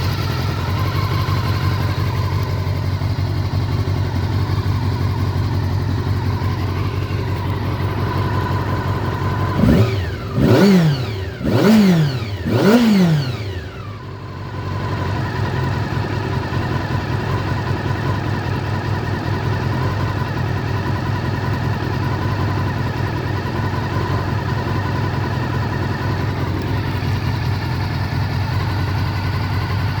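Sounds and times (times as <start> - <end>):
motorcycle engine idling: 0.0 - 30.0
motorcycle engine revving: 0.0 - 30.0.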